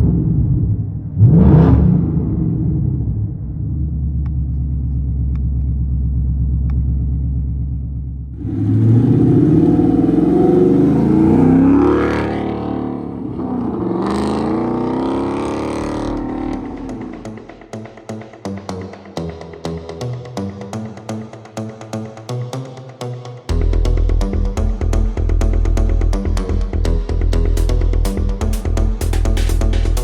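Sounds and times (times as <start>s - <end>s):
car engine idling and revving: 0.0s - 20.1s, 23.5s - 30.0s.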